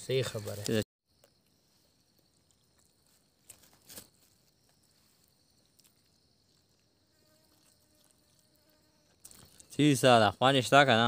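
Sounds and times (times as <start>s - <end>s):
high insect drone: 0.1s - 11.0s.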